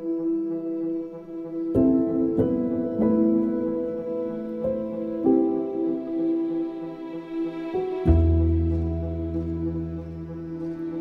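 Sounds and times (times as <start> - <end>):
instrumental music held chords: 0.0 - 11.0.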